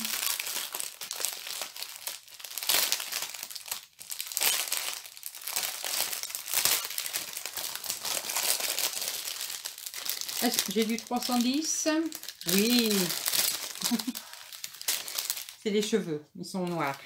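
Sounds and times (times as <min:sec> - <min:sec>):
plastic packaging crinkling: 0:00.0 - 0:16.0, 0:16.6 - 0:17.0.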